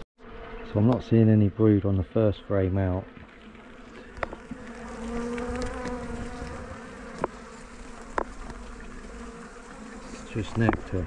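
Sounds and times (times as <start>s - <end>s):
honeybees buzzing: 0.2s - 11.0s.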